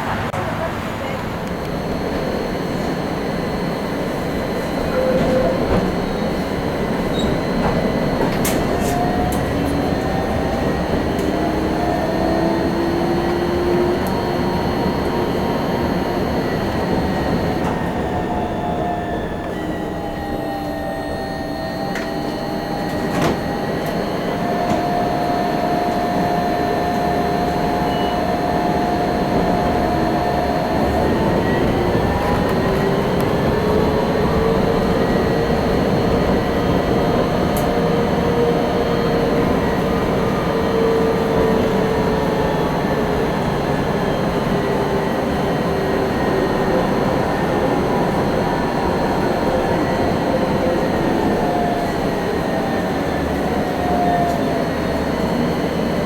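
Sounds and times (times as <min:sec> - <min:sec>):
electric tram whine: 0:00.0 - 0:56.0
tram rolling noise: 0:00.0 - 0:56.0.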